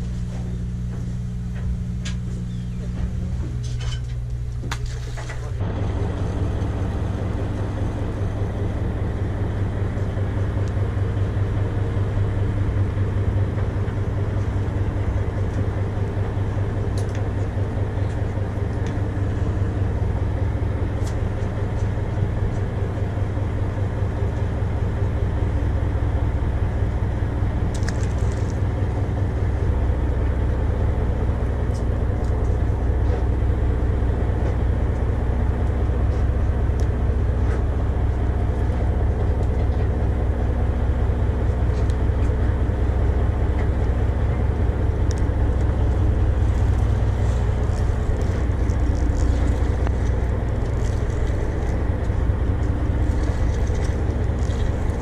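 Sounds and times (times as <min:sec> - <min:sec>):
boat engine humming: 0:00.0 - 0:55.0.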